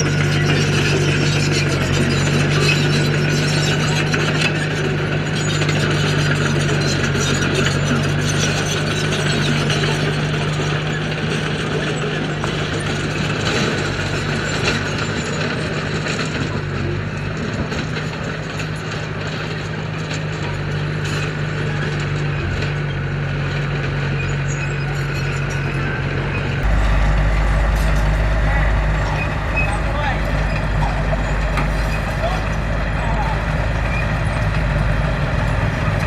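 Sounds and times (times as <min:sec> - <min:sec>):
bulldozer diesel engine running: 0:00.0 - 0:36.0.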